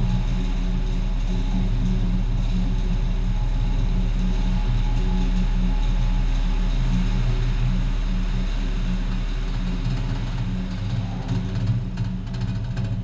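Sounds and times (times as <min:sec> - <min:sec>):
machinery electric hum: 0:00.0 - 0:13.0.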